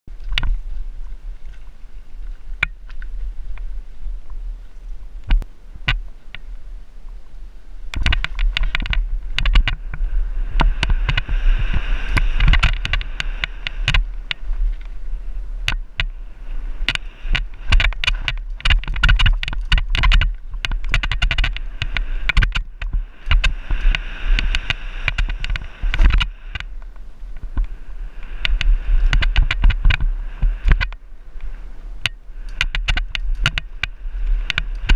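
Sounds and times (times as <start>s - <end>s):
steady low rumble: 0.0s - 34.9s
bike rattling: 0.1s - 34.9s.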